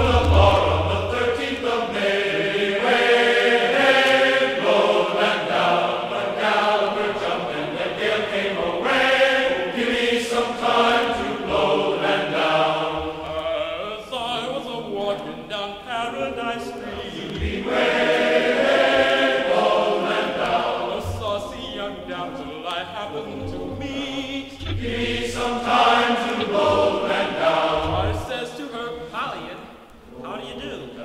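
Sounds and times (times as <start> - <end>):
voices singing held notes: 0.0 - 31.0.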